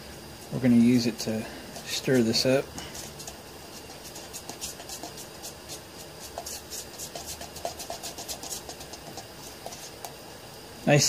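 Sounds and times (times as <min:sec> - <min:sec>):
brush scraping around a cup: 0:00.4 - 0:10.2.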